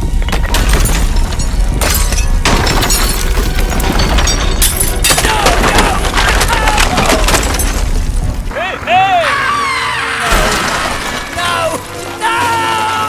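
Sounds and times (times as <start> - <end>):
crashing and rumbling: 0.0 - 9.6, 10.2 - 13.0.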